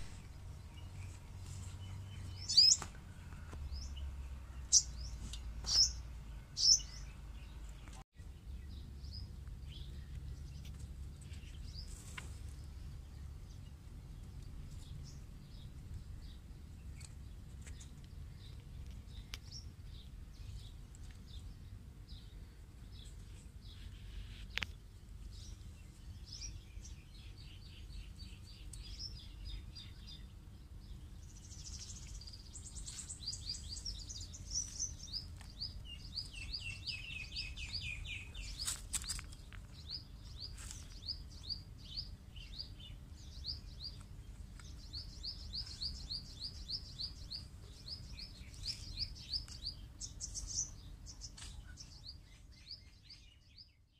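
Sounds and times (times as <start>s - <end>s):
steady low rumble: 0.0s - 52.5s
small birds chirping: 0.0s - 53.9s.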